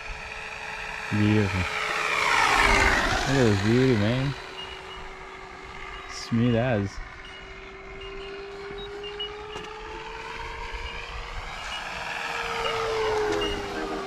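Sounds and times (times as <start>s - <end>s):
model plane motor and propeller: 0.0s - 14.0s.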